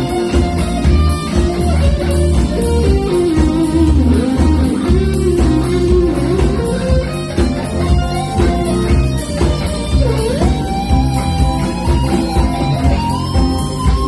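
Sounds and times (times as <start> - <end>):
jazz-funk band playing live: 0.0 - 14.0
sliding guitar-like lead melody: 0.0 - 14.0.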